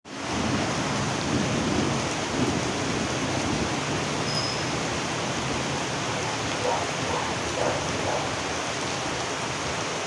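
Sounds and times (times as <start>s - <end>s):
steady rain falling: 0.1s - 10.0s.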